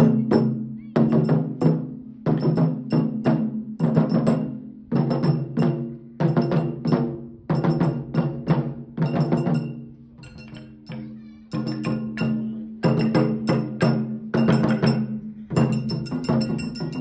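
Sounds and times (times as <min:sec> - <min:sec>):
taiko drum ensemble strikes: 0:00.0 - 0:17.0.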